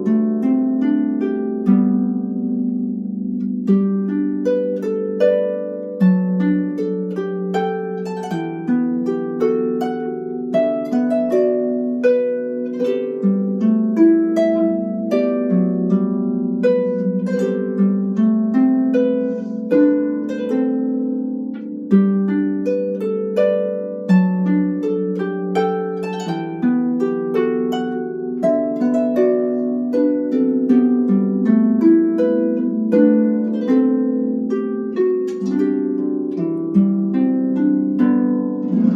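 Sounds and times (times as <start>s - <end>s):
harp playing melody: 0.0s - 38.9s.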